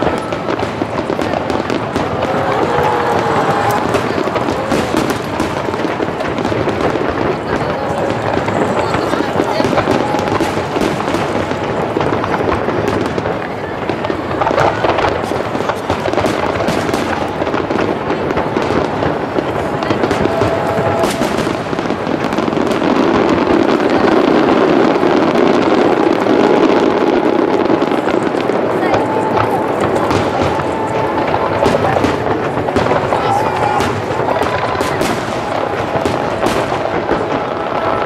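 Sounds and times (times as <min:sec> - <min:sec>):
firework shells bursting: 0:00.0 - 0:38.0.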